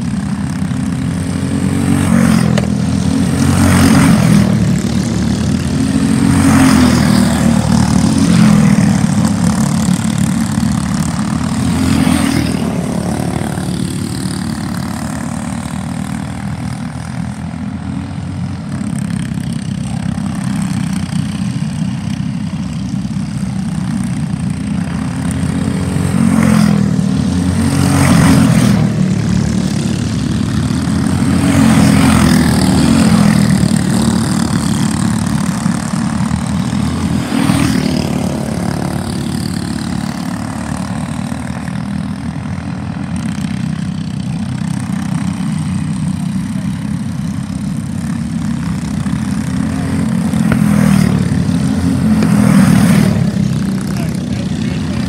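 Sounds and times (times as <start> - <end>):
racing kart engines passing: 0.0 - 55.0.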